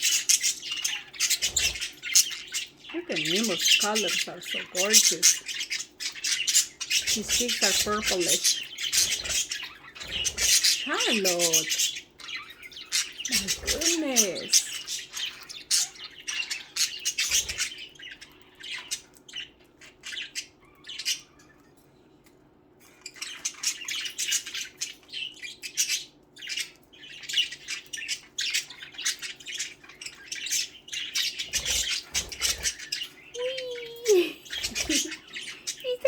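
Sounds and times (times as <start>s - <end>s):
budgerigars chirping and squawking: 0.0s - 36.0s.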